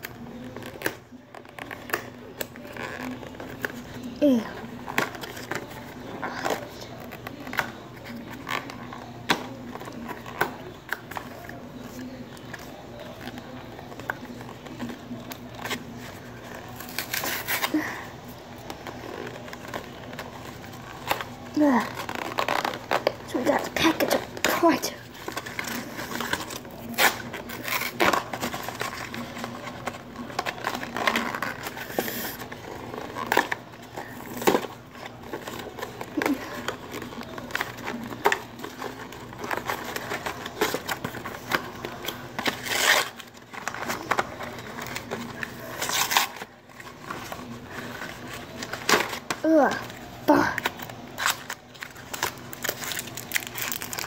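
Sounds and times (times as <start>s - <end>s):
wrapper crinkling and tearing: 0.0s - 54.0s.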